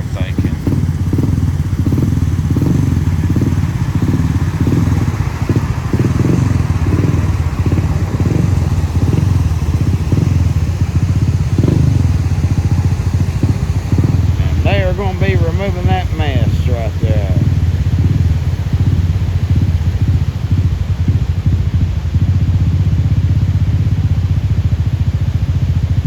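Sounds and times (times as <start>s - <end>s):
large engine running: 0.0s - 26.0s.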